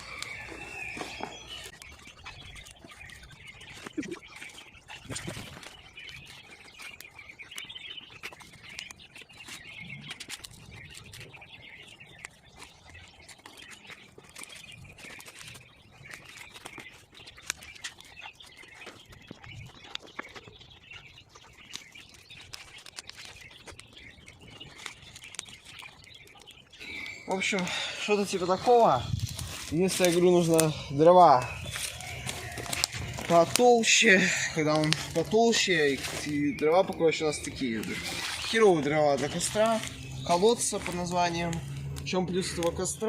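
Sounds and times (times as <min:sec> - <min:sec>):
birds chirping: 0:00.0 - 0:43.0
campfire crackling and popping: 0:00.0 - 0:43.0.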